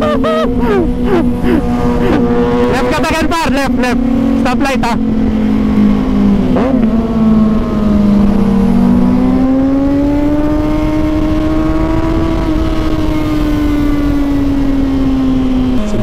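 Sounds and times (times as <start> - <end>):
lower engine note: 0.0 - 16.0
motorcycle engine pulling away: 0.0 - 16.0.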